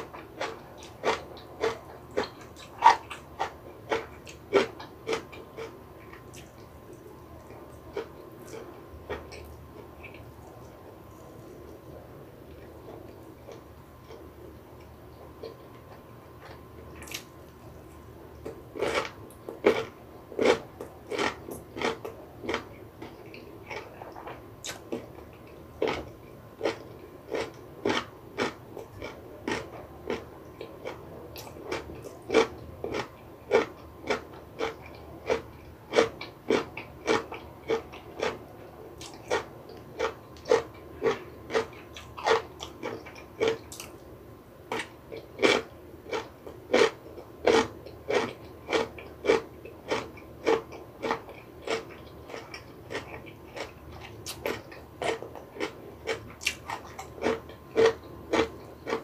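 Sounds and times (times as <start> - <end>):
crisp chewing crunches: 0.0 - 11.8, 14.8 - 44.0, 44.7 - 59.0.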